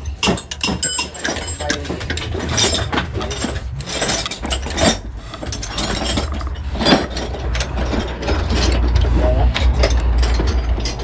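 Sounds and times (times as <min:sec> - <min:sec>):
low steady hum: 0:00.0 - 0:11.0
metal tools clinking: 0:00.0 - 0:11.0.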